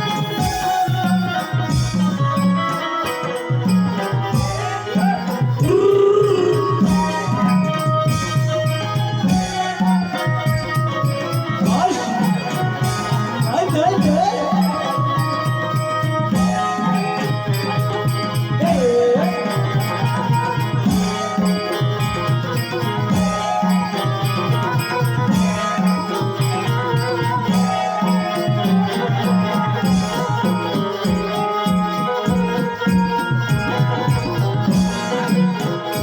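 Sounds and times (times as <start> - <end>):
fast hand-drum beat: 0.0 - 36.0
sustained folk melody: 0.0 - 36.0.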